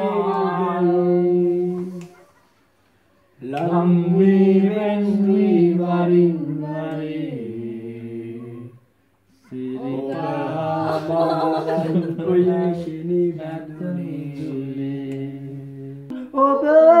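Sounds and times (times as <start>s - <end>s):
man singing unaccompanied: 0.0s - 2.0s, 3.4s - 8.8s, 9.5s - 17.0s.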